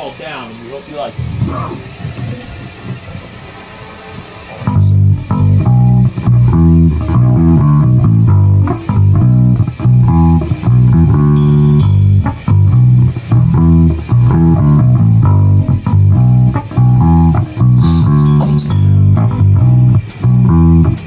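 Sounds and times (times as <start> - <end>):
guitar and bass instrumental: 1.1 - 3.4, 4.6 - 21.0.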